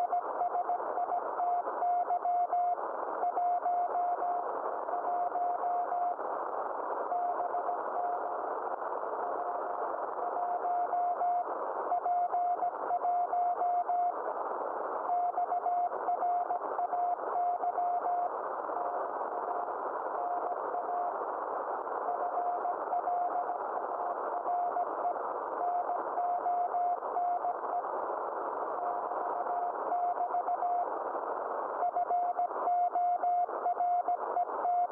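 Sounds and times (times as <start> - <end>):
radio band noise hiss: 0.0 - 34.9.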